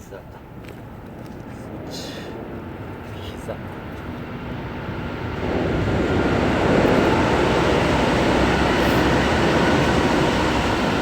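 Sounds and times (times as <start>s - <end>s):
loud steady rumbling: 0.0s - 11.0s.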